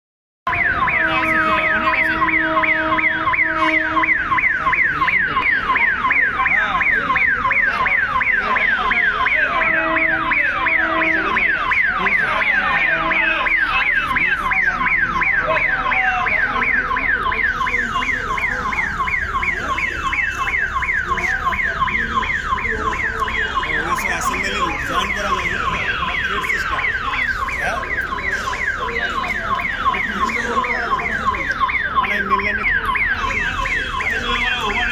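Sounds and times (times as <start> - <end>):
electronic warning siren wailing: 0.5 - 34.9.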